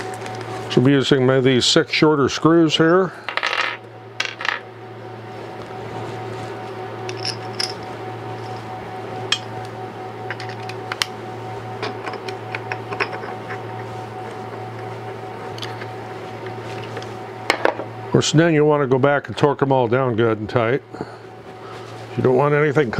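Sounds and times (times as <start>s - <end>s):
steady mechanical hum: 0.0s - 22.9s.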